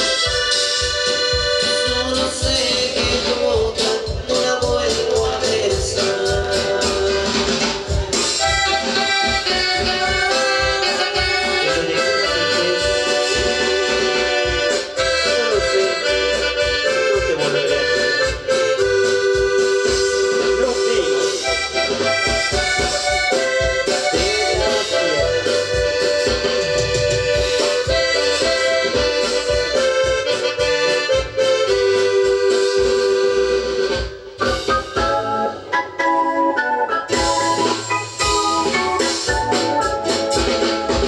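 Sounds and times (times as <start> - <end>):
live dance band music: 0.0 - 41.0.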